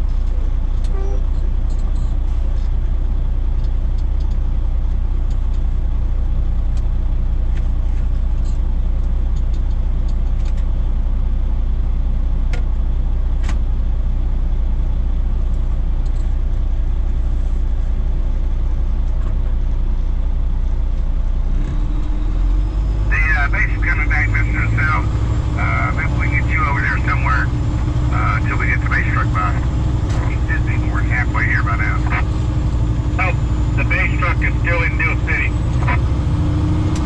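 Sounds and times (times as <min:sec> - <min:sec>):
truck engine and road noise: 0:00.0 - 0:37.0.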